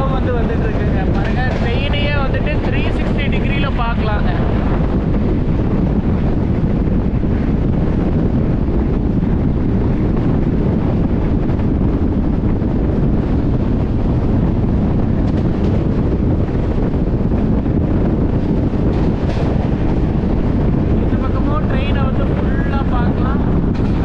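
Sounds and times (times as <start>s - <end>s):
moving train rumble: 0.0s - 24.0s
wind noise on microphone: 0.0s - 24.0s.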